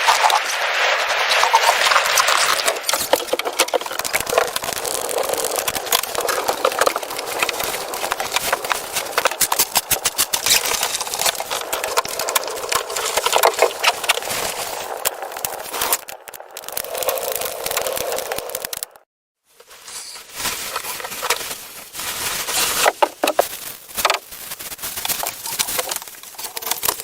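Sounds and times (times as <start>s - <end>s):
dry wood crackling and snapping: 1.4s - 19.0s, 20.3s - 27.0s.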